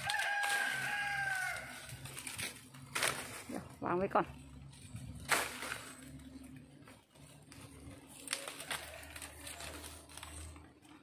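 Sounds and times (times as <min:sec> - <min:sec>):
bamboo stems cracking: 0:00.0 - 0:11.0
twigs rustling: 0:00.0 - 0:11.0.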